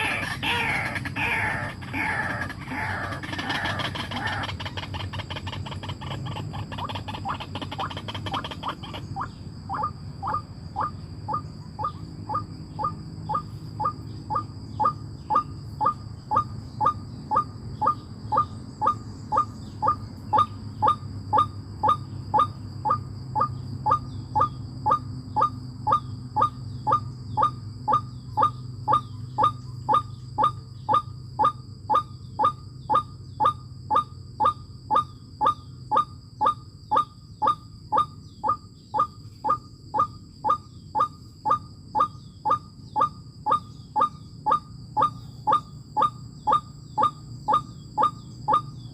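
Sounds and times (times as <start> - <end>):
bird calling: 0.0 - 48.9.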